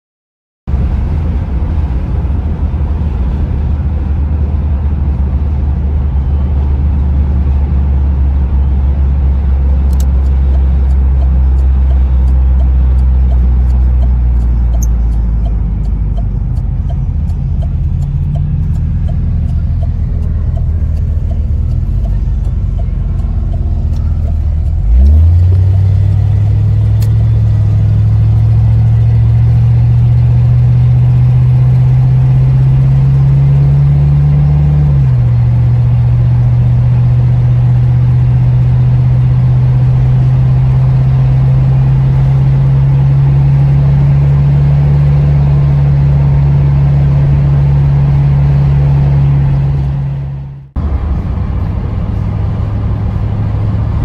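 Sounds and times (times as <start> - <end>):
car engine accelerating: 0.7 - 54.0.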